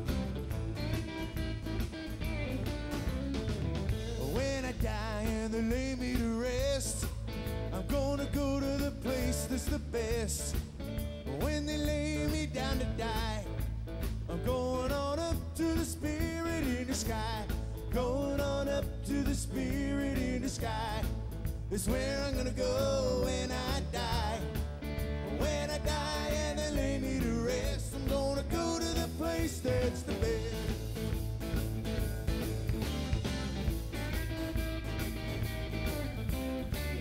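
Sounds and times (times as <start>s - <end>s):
live country band playing: 0.0s - 37.0s.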